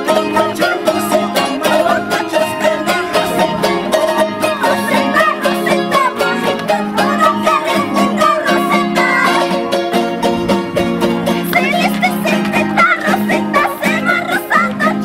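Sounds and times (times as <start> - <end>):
small stringed instrument strummed: 0.0 - 15.0.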